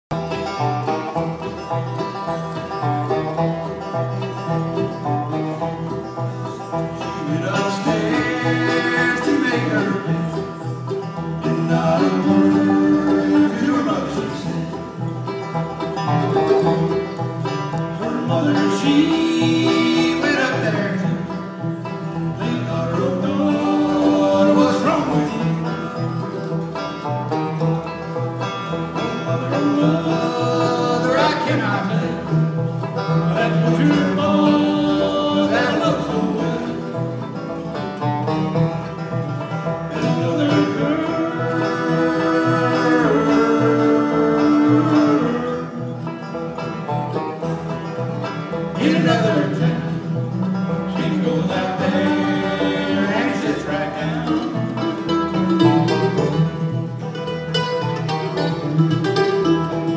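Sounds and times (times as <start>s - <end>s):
live bluegrass band playing: 0.0s - 59.9s.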